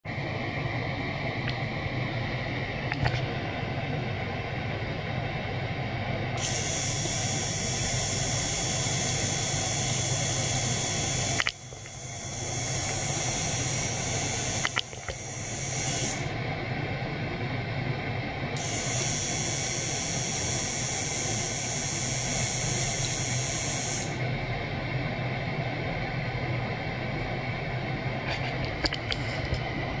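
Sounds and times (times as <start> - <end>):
electric pump humming: 0.0 - 30.0.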